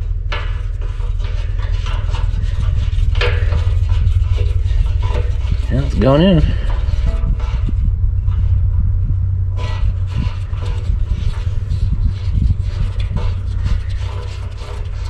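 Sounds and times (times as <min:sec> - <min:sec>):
metallic clicks and scrapes: 0:00.0 - 0:08.5, 0:09.6 - 0:15.0
steady low rumble: 0:00.0 - 0:15.0.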